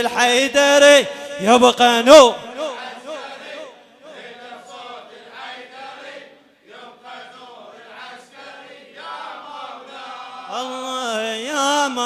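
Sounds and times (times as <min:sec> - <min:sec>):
lead reciter's voice: 0:00.0 - 0:12.0
men chanting in unison: 0:00.0 - 0:12.0.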